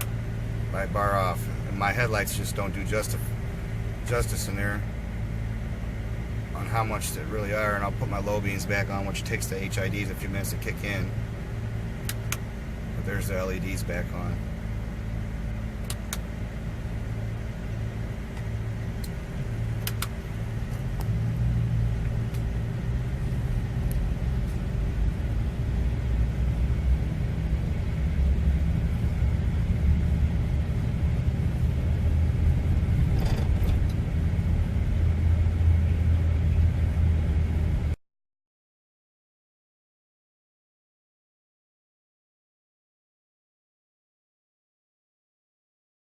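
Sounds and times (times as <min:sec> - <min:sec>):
engine running with low hum: 0:00.0 - 0:38.0.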